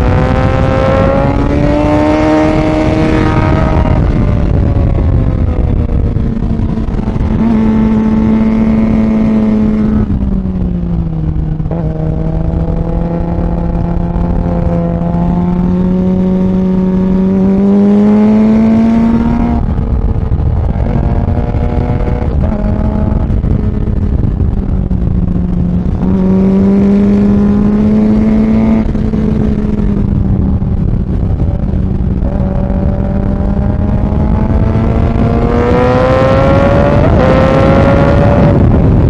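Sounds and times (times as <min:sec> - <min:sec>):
motorcycle engine at speed: 0:00.0 - 0:39.0
wind rush: 0:00.0 - 0:39.0.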